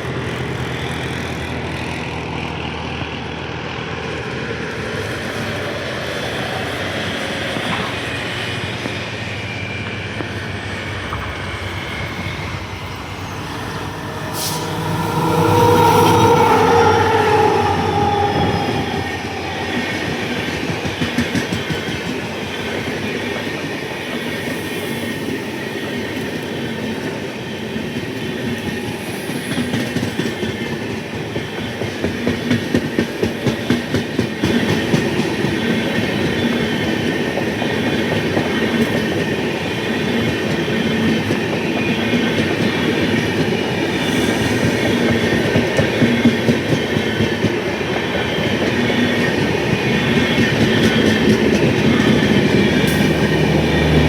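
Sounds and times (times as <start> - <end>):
train rumbling past: 0.0 - 54.0.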